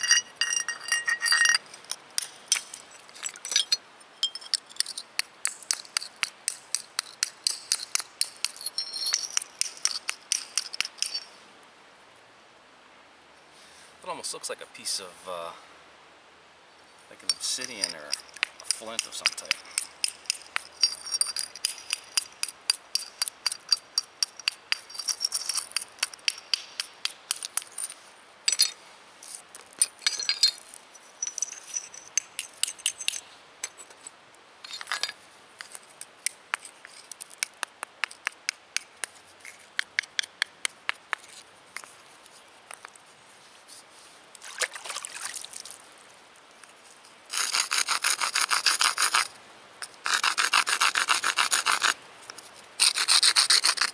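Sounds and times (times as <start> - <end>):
slate scraping against rock: 0.0 - 11.3, 17.2 - 42.9, 47.3 - 53.9.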